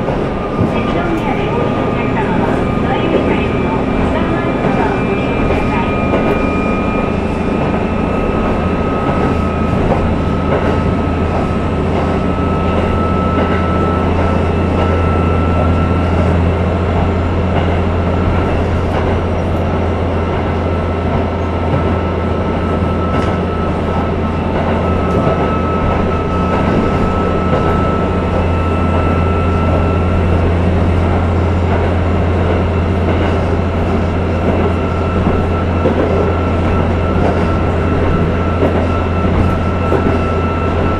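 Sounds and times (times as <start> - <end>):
deep diesel engine drone: 0.0 - 40.9
train wheels rumbling on rail: 0.0 - 40.9.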